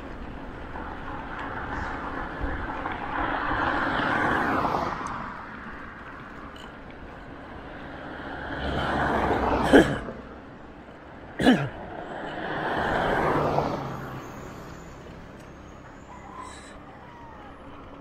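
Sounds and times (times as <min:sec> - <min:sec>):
road vehicles passing: 0:00.0 - 0:18.0.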